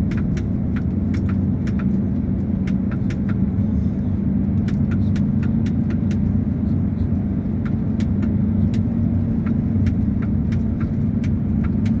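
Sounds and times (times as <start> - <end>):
sharp clicks and rattles: 0.0 - 3.6, 4.2 - 12.0
diesel engine rumbling: 0.0 - 12.0.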